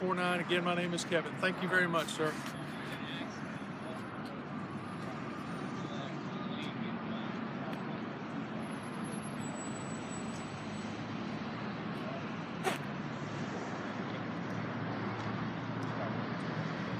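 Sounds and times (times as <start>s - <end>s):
road traffic noise: 0.0s - 16.9s.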